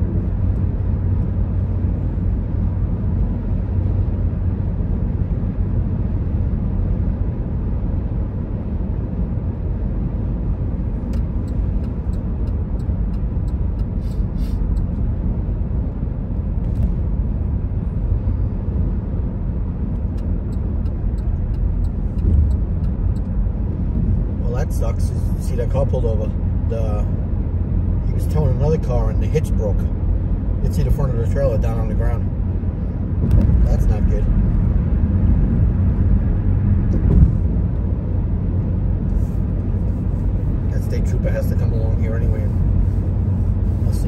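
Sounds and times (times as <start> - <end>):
car engine: 0.0 - 44.0
road and tyre noise: 0.0 - 44.0.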